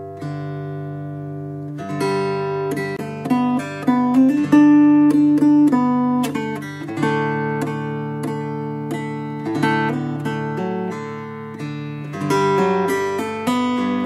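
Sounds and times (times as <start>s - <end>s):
acoustic guitar melody: 0.0s - 14.0s.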